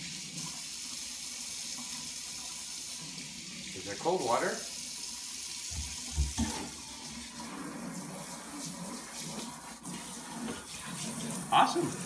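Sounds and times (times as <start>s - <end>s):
water running into sink: 0.0s - 12.0s.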